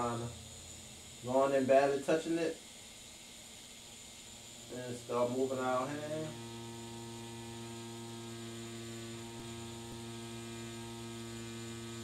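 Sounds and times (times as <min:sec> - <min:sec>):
tattoo machine buzzing: 0:00.0 - 0:12.0.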